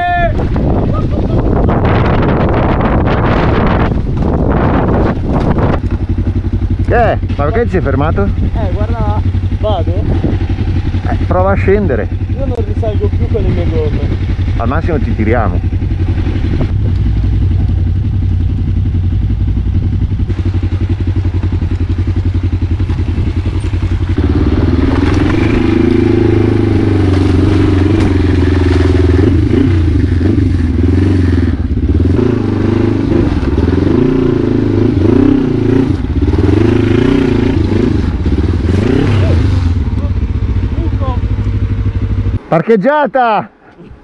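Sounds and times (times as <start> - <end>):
motorcycle engine: 0.0 - 44.0.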